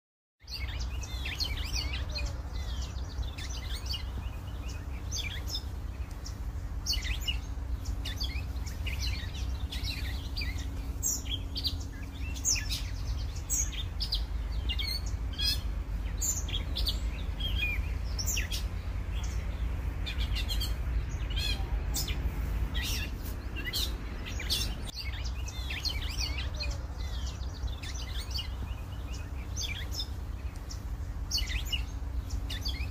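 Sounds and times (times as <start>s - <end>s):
songbirds chirping and singing: 0.4s - 32.9s
steady low rumble: 0.5s - 32.9s.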